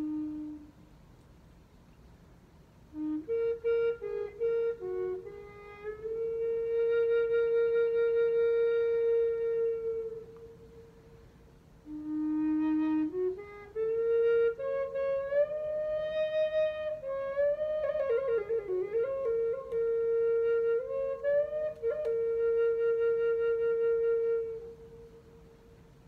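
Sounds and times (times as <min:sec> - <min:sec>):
end-blown flute playing slow melody: 0:00.0 - 0:01.3, 0:02.8 - 0:26.0.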